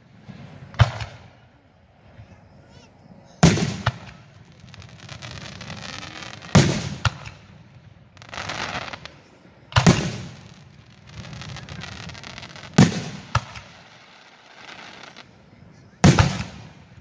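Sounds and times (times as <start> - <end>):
firework shells booming: 0.0 - 17.0
hissing: 0.2 - 16.8.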